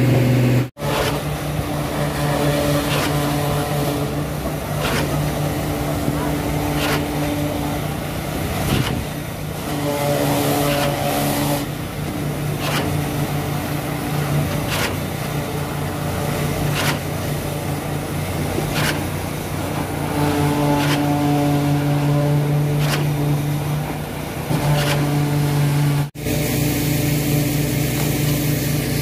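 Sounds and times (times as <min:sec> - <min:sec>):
engine drone: 0:00.0 - 0:29.0.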